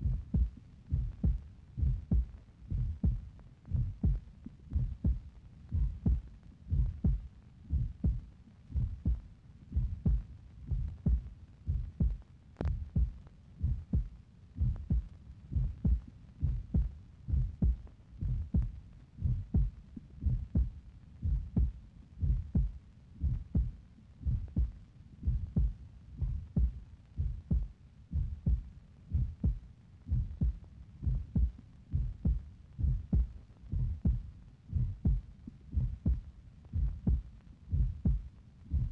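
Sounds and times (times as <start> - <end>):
low doubled thumps: 0.0 - 38.9.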